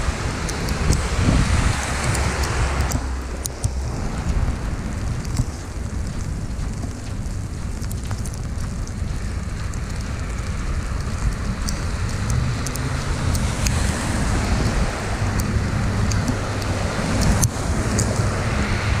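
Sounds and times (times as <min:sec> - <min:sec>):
icy precipitation ticking: 0:00.0 - 0:19.0
road traffic: 0:00.0 - 0:19.0
wind rumbling on microphone: 0:00.0 - 0:19.0.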